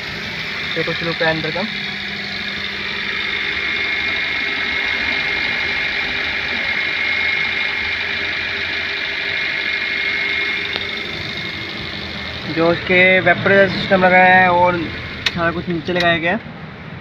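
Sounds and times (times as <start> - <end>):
car engine idling: 0.0 - 17.0
steady high whine: 0.0 - 17.0.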